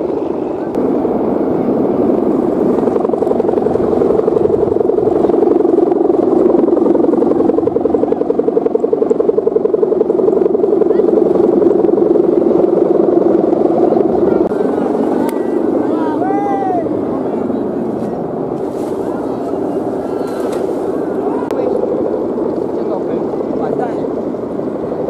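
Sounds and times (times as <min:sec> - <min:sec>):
kite hummer buzzing drone: 0:00.0 - 0:25.0.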